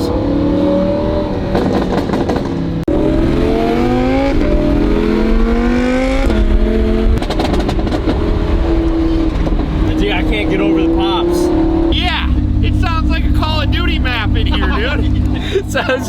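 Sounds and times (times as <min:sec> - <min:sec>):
sports car accelerating hard: 0:00.0 - 0:15.9
exhaust pops crackling: 0:01.3 - 0:16.0.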